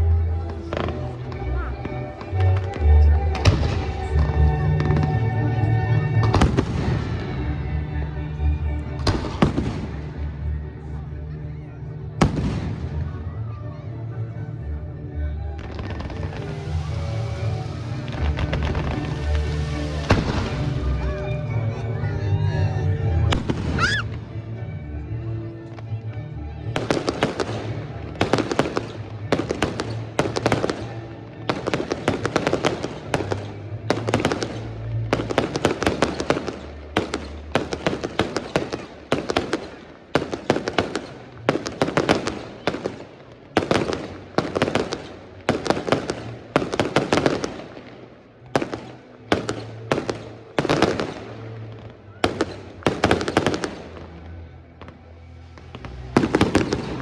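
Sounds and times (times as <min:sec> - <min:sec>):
fireworks bangs and crackling: 0:00.0 - 0:13.5, 0:15.4 - 0:22.0, 0:23.1 - 0:24.5, 0:26.6 - 0:57.0.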